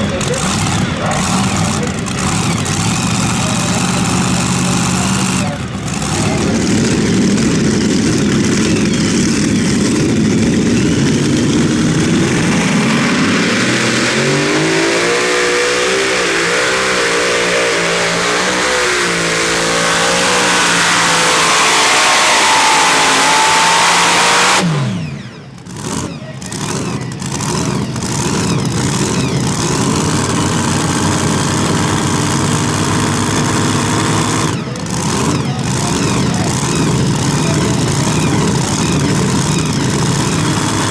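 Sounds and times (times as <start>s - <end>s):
tractor engine at full throttle: 0.0s - 40.9s.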